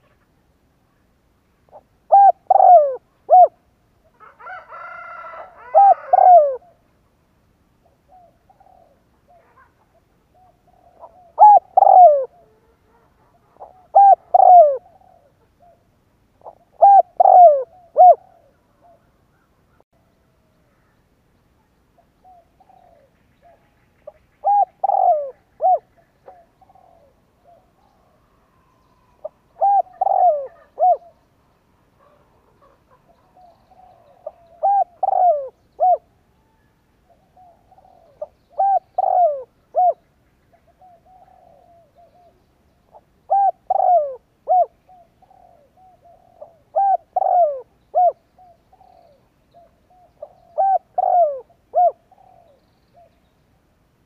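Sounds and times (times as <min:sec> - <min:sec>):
dove cooing: 0:01.7 - 0:06.9, 0:07.8 - 0:19.8, 0:22.2 - 0:31.4, 0:32.0 - 0:53.2.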